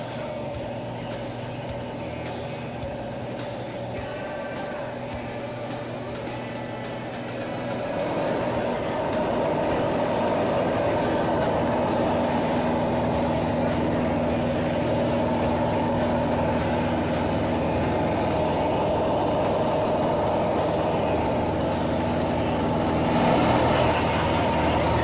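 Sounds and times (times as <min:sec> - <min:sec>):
light plane engine drone: 0:00.0 - 0:25.0.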